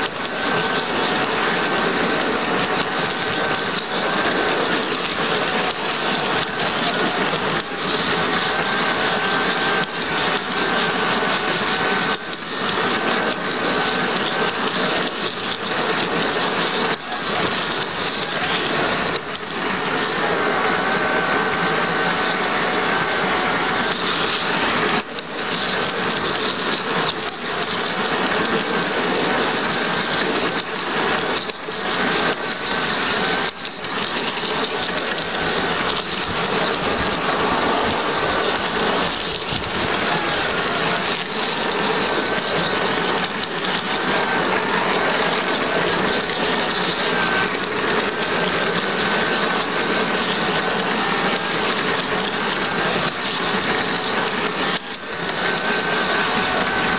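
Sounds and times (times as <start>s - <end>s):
electric motor whine: 0.0s - 56.9s
wheels rolling on rails: 0.0s - 56.9s.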